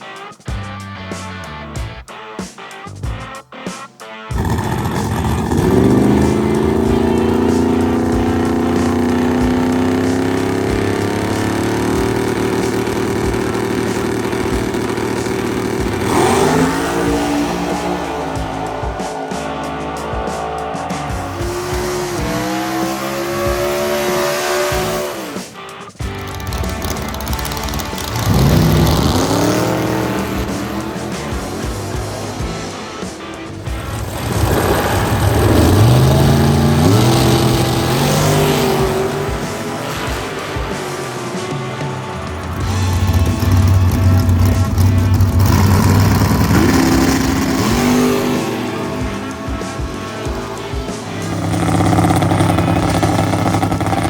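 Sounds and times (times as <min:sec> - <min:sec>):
race car engine revving: 0:04.3 - 0:54.0.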